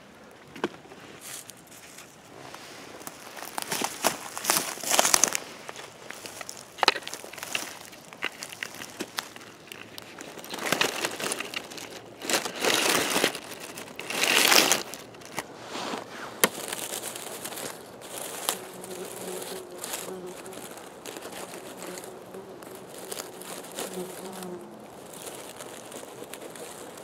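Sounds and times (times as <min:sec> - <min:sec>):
pine needles crunching underfoot: 0:01.0 - 0:27.0
twigs snapping: 0:03.0 - 0:15.5, 0:16.4 - 0:27.0.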